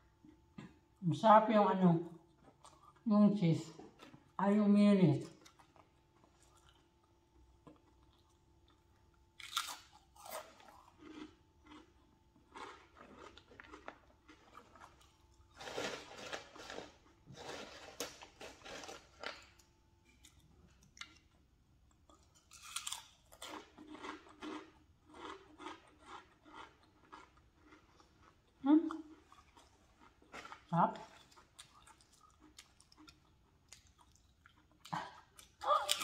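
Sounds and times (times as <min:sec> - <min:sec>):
chips being chewed: 0:05.2 - 0:36.0.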